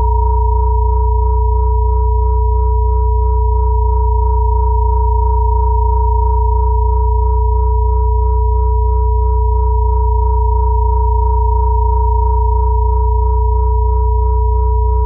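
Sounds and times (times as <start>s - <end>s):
deep low hum: 0.0s - 15.0s
high sine tone: 0.0s - 15.0s
middle sine tone: 0.0s - 15.0s.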